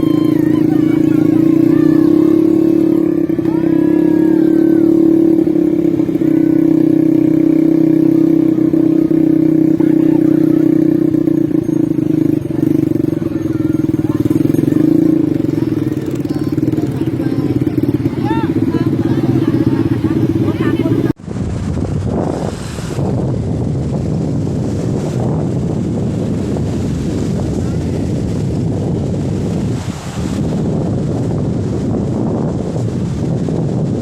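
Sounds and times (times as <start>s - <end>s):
atv engine droning: 0.0s - 34.0s.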